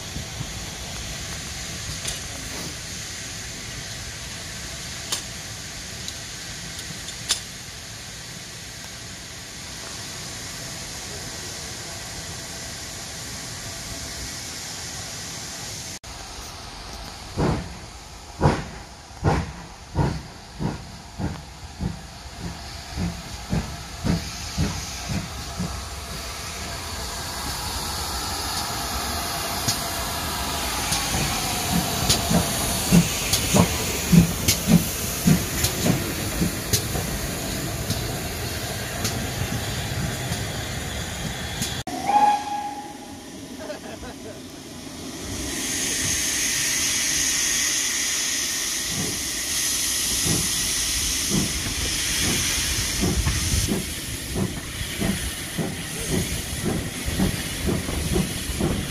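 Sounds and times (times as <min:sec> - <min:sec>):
steam hissing: 0:00.0 - 0:58.9
steam locomotive exhaust chuffs: 0:00.0 - 0:58.9.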